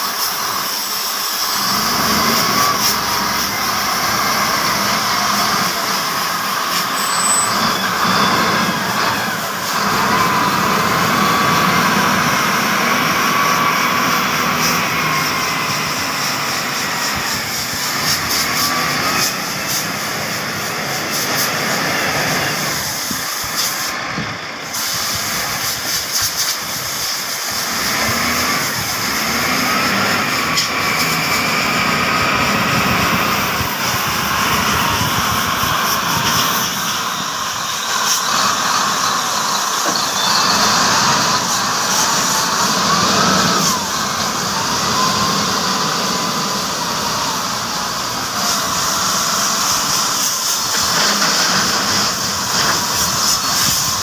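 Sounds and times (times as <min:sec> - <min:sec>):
diesel engine revving with whine: 0:00.1 - 0:54.0.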